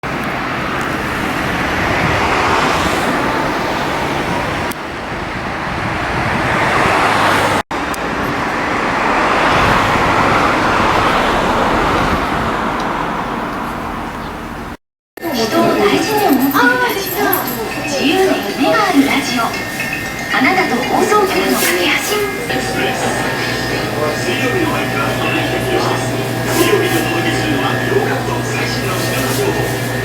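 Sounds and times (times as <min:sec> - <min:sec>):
vehicles passing on road: 0:00.0 - 0:30.0.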